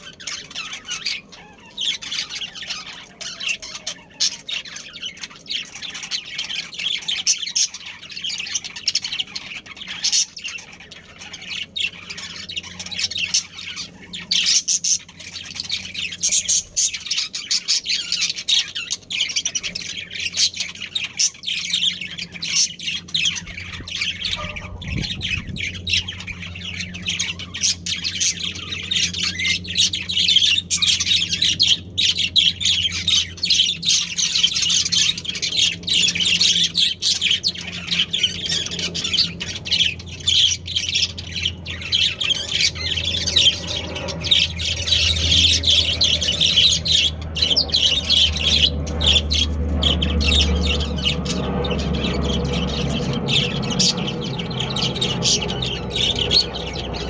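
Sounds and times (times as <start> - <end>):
budgerigars chirping and squawking: 0.0 - 57.0
steady low hum: 0.0 - 57.0.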